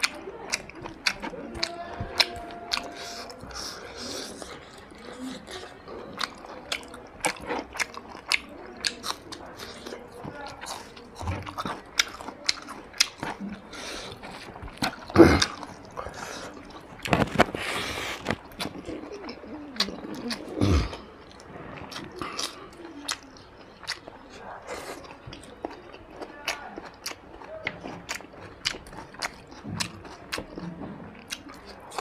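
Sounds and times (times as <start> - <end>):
man chewing and lip-smacking: 0.0 - 32.0.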